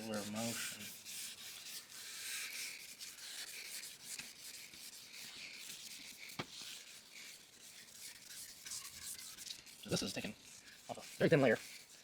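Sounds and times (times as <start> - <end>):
wet-sanding plastic scrubbing hiss: 0.0 - 12.0.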